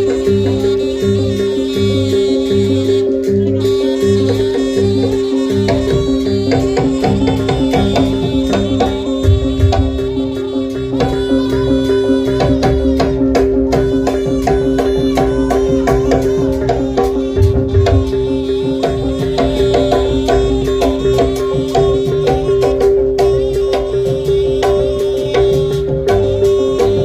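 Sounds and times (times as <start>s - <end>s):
fast dense drumming: 0.0s - 27.0s
steady held tones: 0.0s - 27.0s.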